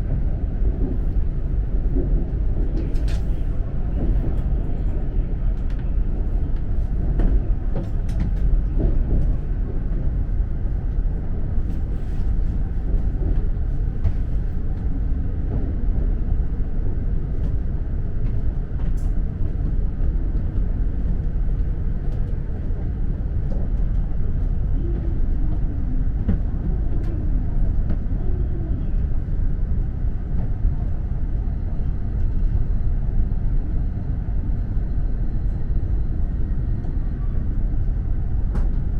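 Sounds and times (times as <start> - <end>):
train interior rumble: 0.0 - 38.9.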